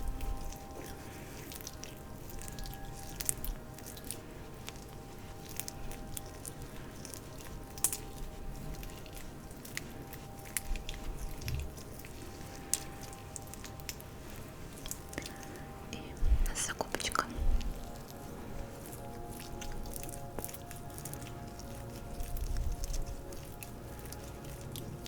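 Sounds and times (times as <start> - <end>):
faint low hiss: 0.0 - 25.0
oily hands squishing: 0.0 - 25.0.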